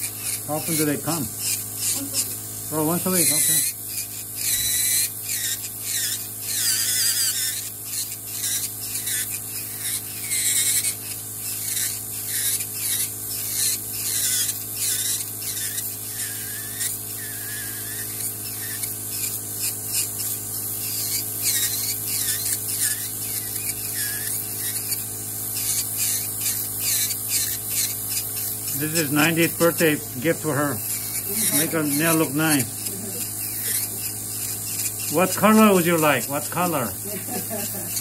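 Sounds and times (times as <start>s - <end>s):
electric nail drill grinding: 0.0s - 38.0s.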